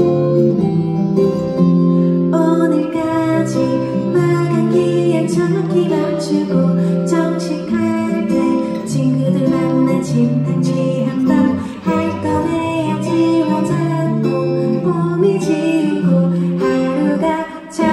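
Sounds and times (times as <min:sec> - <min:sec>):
strummed acoustic guitar: 0:00.0 - 0:17.9
woman singing: 0:02.3 - 0:17.9.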